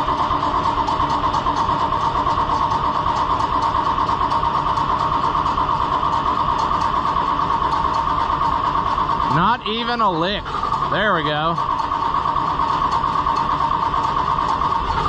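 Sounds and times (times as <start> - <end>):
starter motor cranking engine: 0.0 - 15.0.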